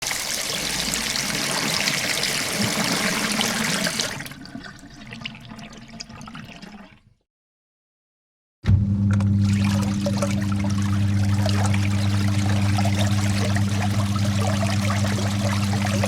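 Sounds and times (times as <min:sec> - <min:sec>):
washing machine water rushing: 0:00.0 - 0:07.0, 0:08.7 - 0:16.0.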